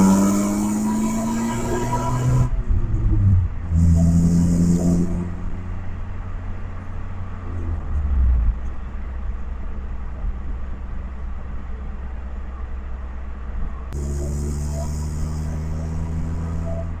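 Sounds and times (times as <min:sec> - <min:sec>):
car engine and exhaust rumble: 0:00.0 - 0:17.0.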